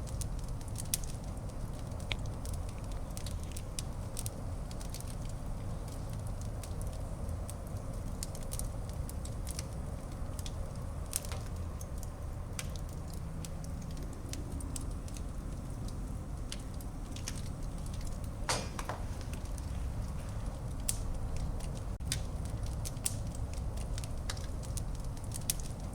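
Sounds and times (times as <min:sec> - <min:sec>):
fire crackling and popping: 0:00.0 - 0:25.9
low rumble of flames: 0:00.0 - 0:25.9.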